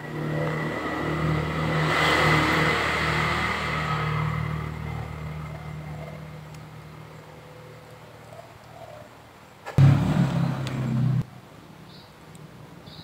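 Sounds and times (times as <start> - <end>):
vehicle engine humming: 0.0 - 8.8, 9.6 - 11.4.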